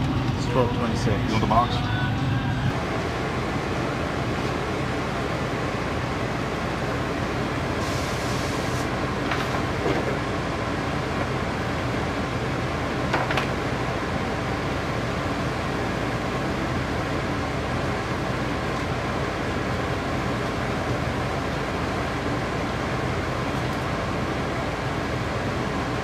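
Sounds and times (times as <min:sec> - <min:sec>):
machinery hum and hiss: 0:00.0 - 0:26.0.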